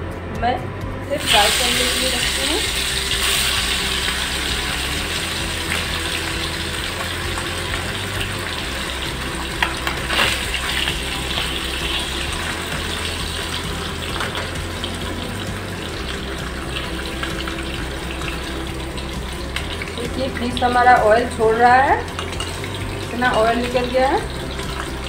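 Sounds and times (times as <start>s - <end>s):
fish sizzling in hot oil: 1.2s - 25.0s.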